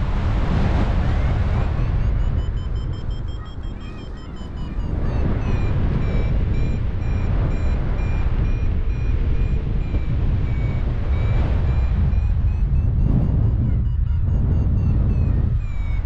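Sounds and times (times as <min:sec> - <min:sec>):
wind rush on microphone: 0:00.0 - 0:16.0
variometer short beeps: 0:01.2 - 0:16.0.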